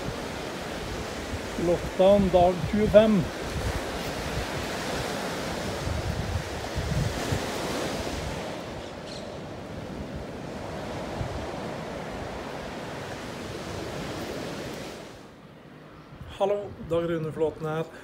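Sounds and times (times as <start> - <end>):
wind buffeting microphone: 0.0 - 15.1
sea surf washing onto beach: 0.0 - 15.4.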